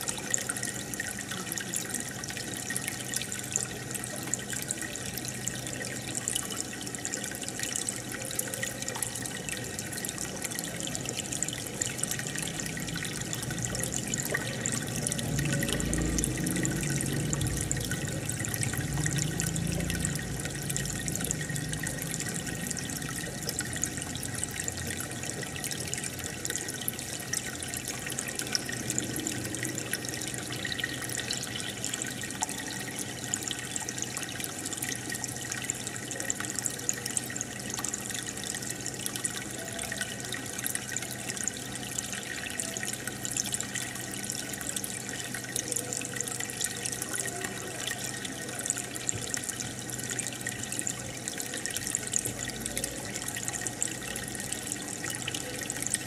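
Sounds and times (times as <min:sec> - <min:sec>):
aquarium water bubbling: 0:00.0 - 0:56.0
tiny crackling splashes: 0:00.0 - 0:56.0.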